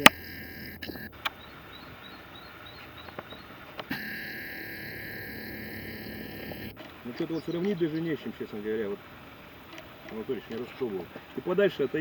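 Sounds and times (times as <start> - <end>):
sharp clicks: 0.0 - 11.4
background hiss: 0.0 - 12.0
bird chirping faintly: 0.0 - 12.0.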